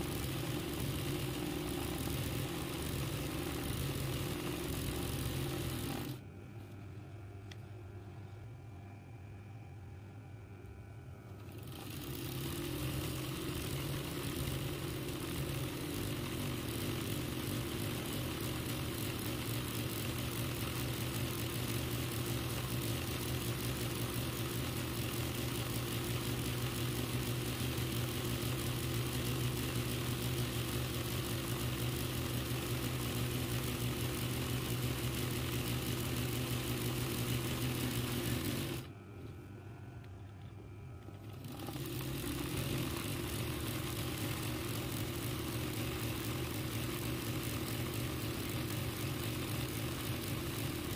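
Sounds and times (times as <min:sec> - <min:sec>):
embroidery machine stitching: 0:00.0 - 0:06.2, 0:11.4 - 0:38.9, 0:41.1 - 0:50.9.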